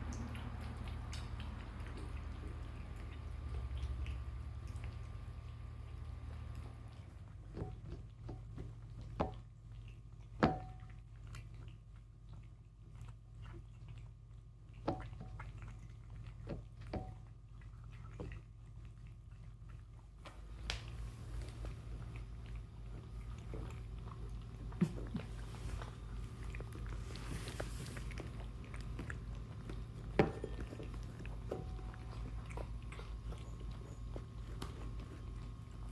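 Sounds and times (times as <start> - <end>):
cats chewing food: 0.0 - 35.9.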